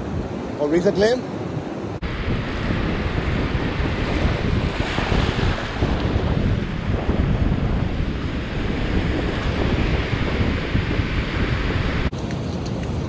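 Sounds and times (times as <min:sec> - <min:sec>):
ocean surf washing: 0:00.0 - 0:12.2
wind buffeting microphone: 0:00.0 - 0:13.0.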